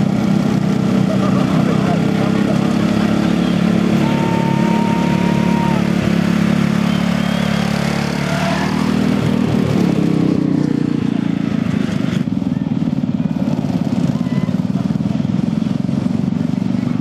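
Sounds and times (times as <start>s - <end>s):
riding lawn mower engines: 0.0s - 17.0s.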